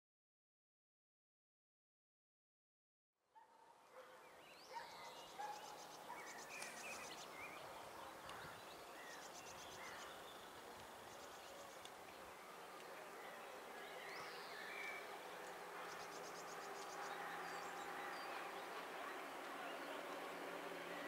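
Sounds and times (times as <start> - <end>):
birds chirping and trilling: 3.9 - 21.0.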